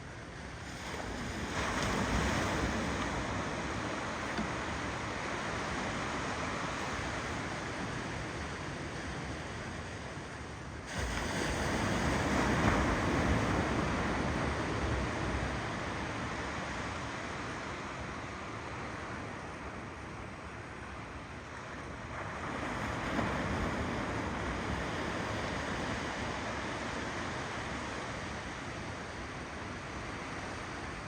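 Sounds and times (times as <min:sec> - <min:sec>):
ocean waves on shore: 0:00.1 - 0:31.0.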